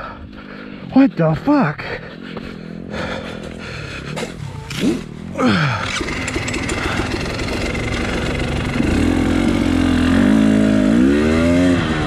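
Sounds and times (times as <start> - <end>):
dirt bike engine starting and running: 1.8 - 12.0.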